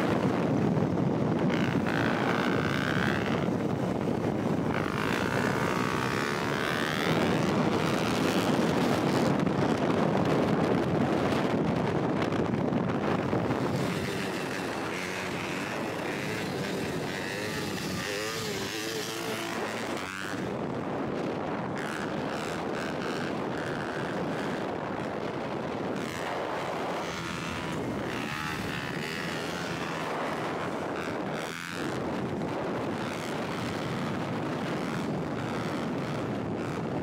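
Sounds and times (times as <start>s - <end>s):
dirt bike engine revving: 0.0s - 10.0s, 12.9s - 37.0s.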